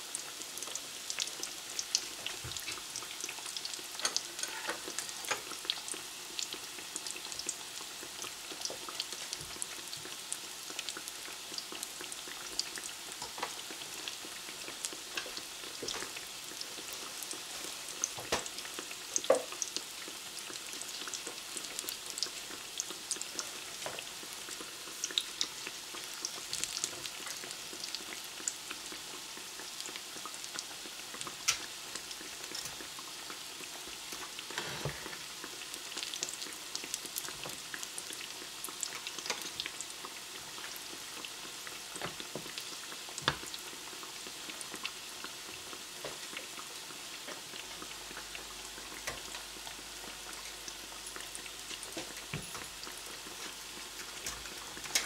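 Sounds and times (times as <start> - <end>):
food frying in hot oil: 0.0 - 55.0.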